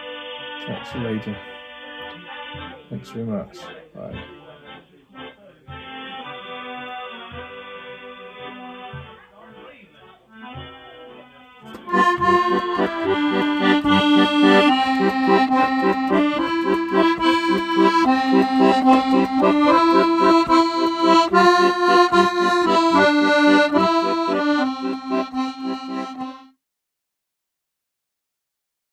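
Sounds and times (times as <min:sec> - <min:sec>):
accordion music: 0:00.0 - 0:26.6.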